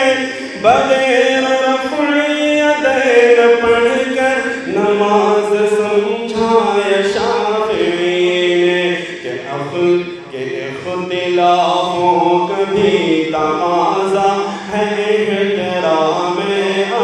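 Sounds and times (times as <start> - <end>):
solo voice chanting: 0.0 - 17.0.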